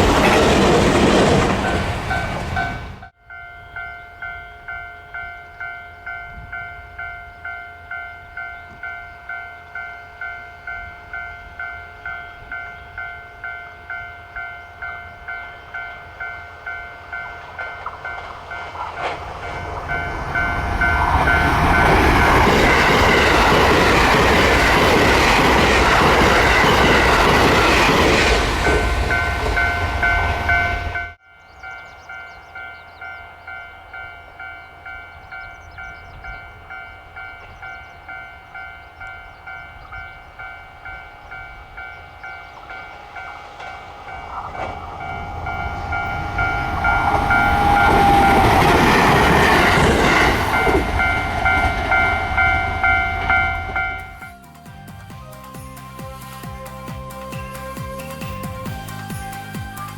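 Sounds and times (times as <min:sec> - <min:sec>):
train running noise: 0:00.0 - 0:59.9
level crossing warning bell: 0:01.2 - 0:54.4.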